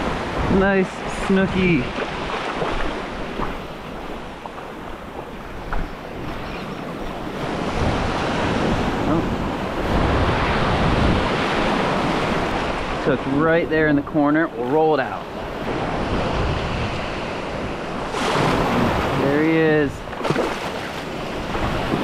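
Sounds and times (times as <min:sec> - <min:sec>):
wind buffeting microphone: 0:00.0 - 0:13.1, 0:15.3 - 0:22.0
ocean surf breaking: 0:00.0 - 0:22.0.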